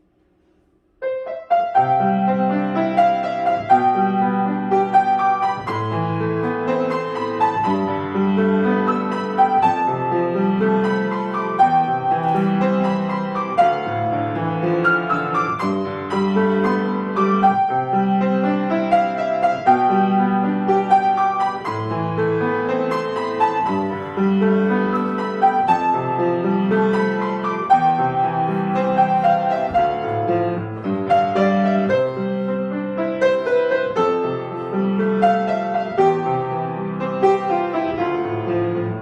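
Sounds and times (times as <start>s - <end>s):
solo piano: 0.0s - 39.0s.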